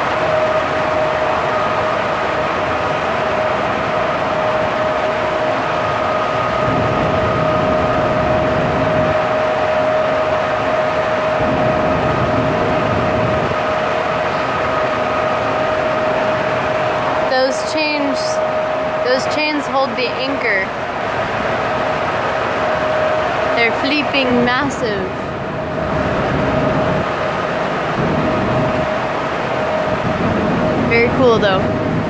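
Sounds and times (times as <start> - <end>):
ship machinery rushing and humming: 0.0 - 32.0.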